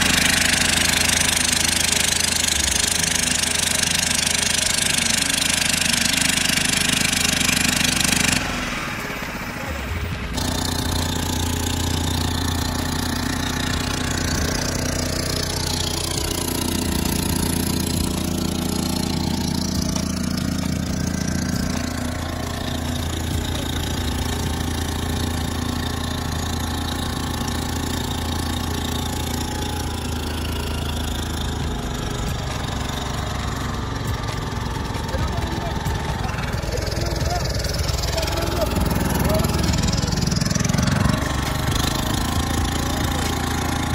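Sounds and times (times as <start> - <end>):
motorboat engine running: 0.0 - 43.9.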